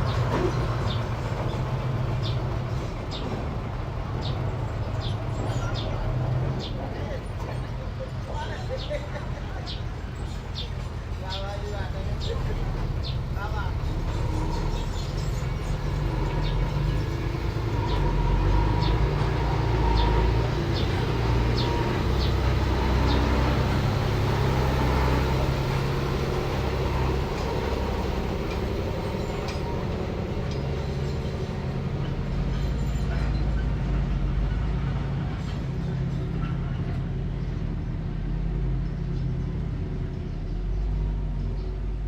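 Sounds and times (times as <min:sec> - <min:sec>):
diesel engine rumbling: 0:00.0 - 0:42.0.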